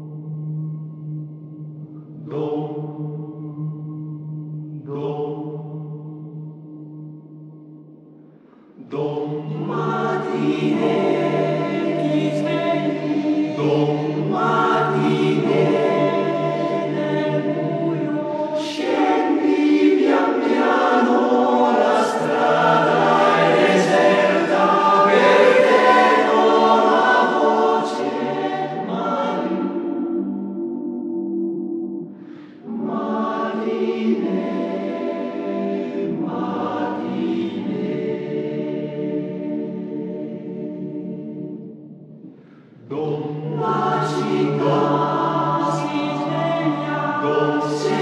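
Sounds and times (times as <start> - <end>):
choir singing a cappella: 0.0 - 48.0.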